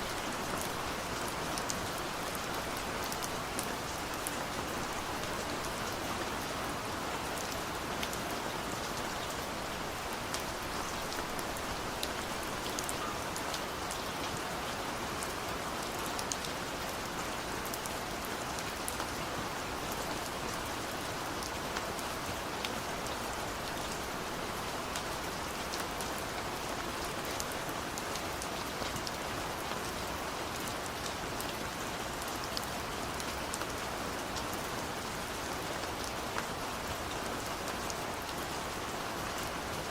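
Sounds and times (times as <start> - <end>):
raindrops ticking on surfaces: 0.0 - 39.9
steady rainfall: 0.0 - 39.9.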